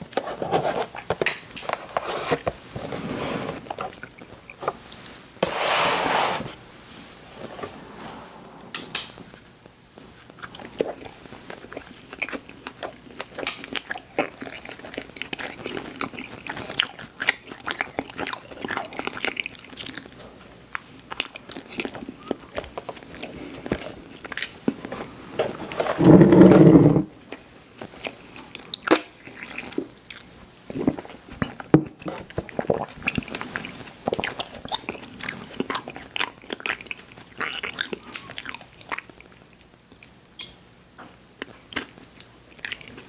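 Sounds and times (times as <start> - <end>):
cookies crunching and chewing: 0.0 - 2.9, 10.2 - 26.3, 27.2 - 43.0.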